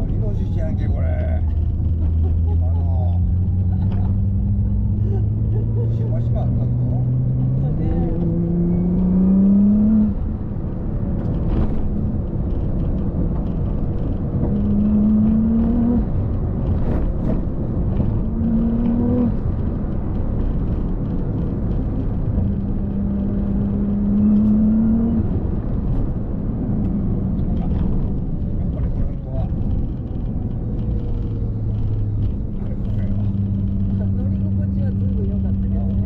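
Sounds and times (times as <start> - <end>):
rumbling road noise: 0.0 - 36.0
vehicle engine accelerating: 0.0 - 36.0.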